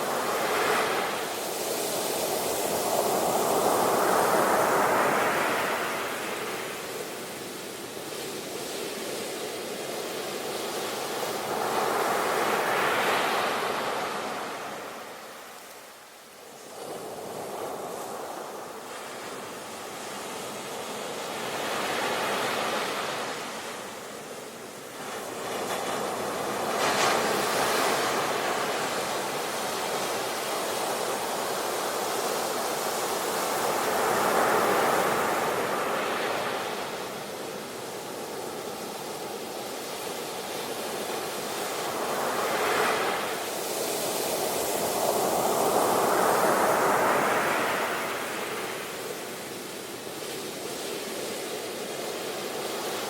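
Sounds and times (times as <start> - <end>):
sea waves washing onto shore: 0.0 - 53.0.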